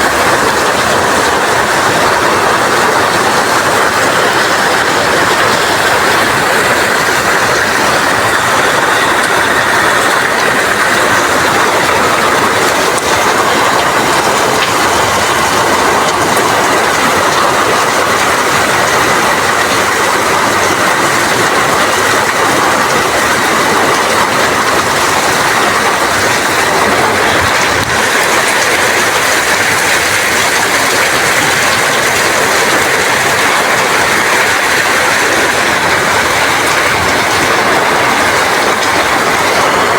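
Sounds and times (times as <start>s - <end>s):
heavy rain in strong wind: 0.0s - 39.9s.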